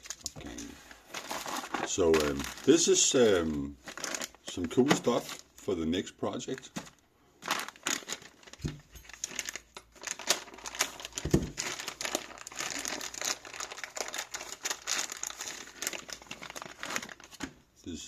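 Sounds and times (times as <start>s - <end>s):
packaging crinkling and rustling: 0.0s - 17.6s.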